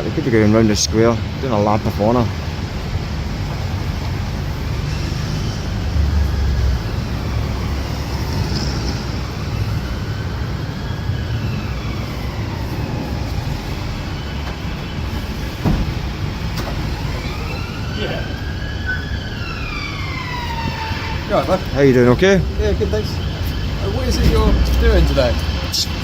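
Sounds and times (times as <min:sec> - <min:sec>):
heavy street traffic rumble: 0:00.0 - 0:26.0
police siren wailing: 0:00.0 - 0:26.0.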